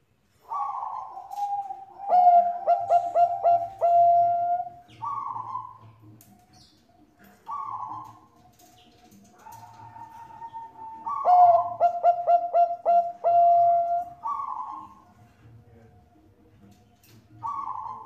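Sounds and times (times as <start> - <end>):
dove cooing: 0.3 - 18.0.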